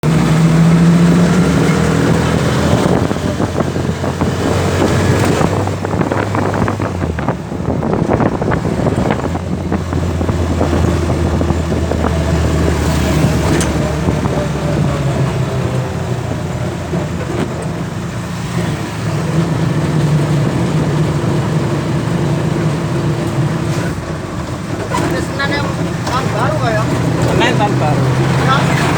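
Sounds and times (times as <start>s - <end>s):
cargo motorcycle engine running: 0.0s - 28.9s
road and wind noise: 0.0s - 28.9s.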